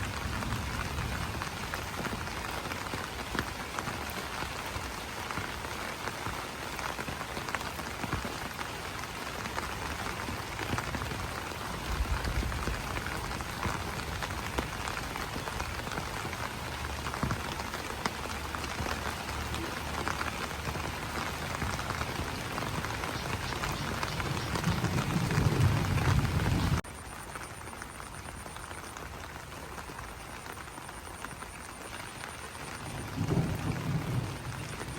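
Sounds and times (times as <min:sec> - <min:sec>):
rain pattering on leaves: 0:00.0 - 0:34.9.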